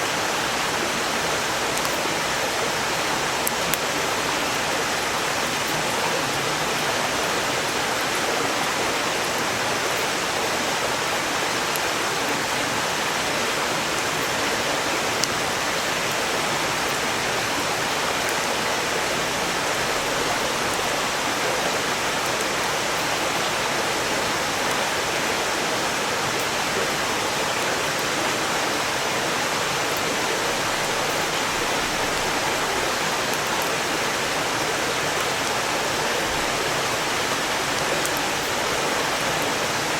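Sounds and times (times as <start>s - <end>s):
campfire crackles: 0.0s - 39.9s
stream rushing: 0.0s - 39.9s.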